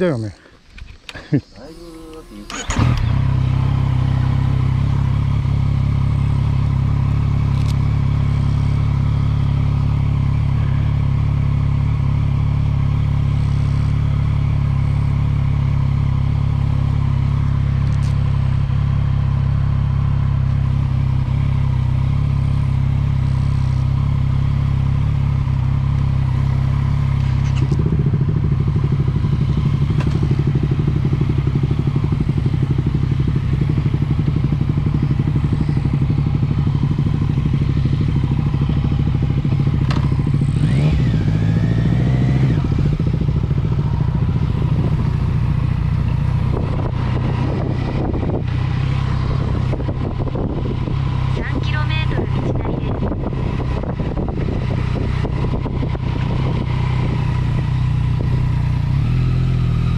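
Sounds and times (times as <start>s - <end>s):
motorcycle engine running: 1.1s - 59.9s.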